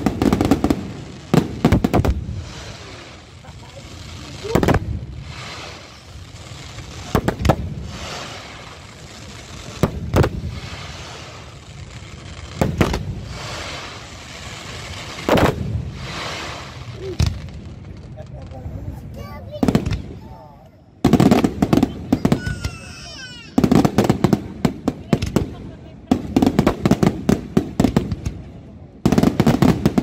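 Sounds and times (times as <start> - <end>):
crackling hiss: 0.0 - 30.0.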